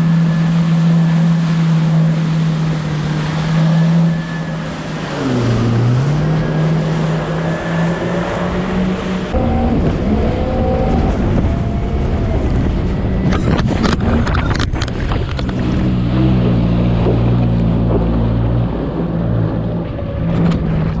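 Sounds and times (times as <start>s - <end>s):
jet ski engine running: 0.0s - 21.0s
water rushing: 0.0s - 21.0s
wind buffeting microphone: 2.0s - 21.0s.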